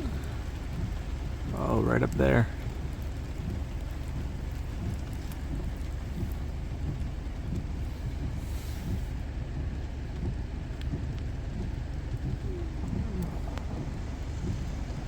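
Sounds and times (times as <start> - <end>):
raindrops ticking: 0.0 - 15.0
steady rain: 0.0 - 15.0
wind buffeting microphone: 2.2 - 15.0.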